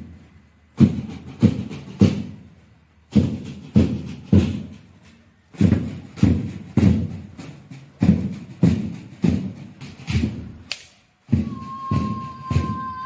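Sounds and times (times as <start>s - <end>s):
drums beating a marching cadence: 0.0s - 13.0s.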